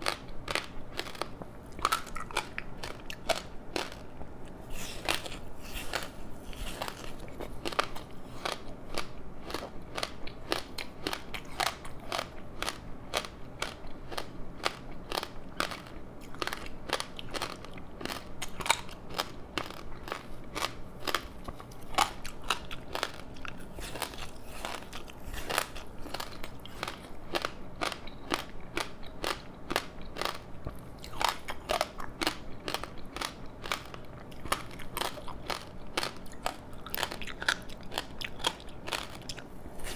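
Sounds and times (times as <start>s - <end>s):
crunching crispy seaweed: 0.0s - 30.4s, 31.0s - 39.9s
wet chewing: 0.0s - 39.9s.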